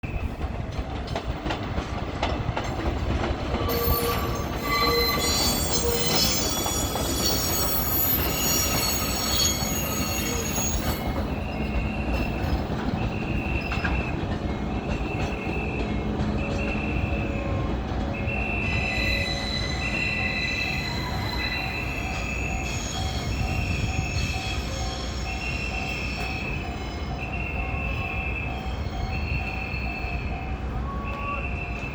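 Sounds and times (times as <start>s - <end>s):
train rumbling on rails: 0.0s - 31.9s
train wheel squeal: 2.8s - 31.9s.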